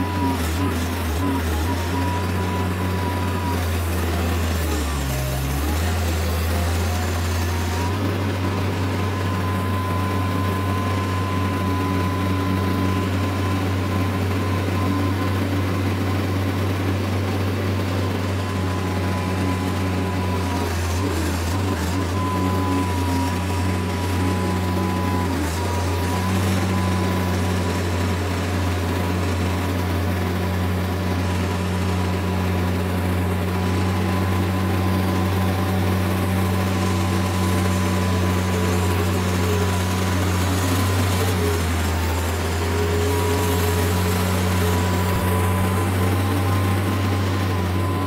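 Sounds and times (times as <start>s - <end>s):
tractor diesel engine under load: 0.0s - 48.0s.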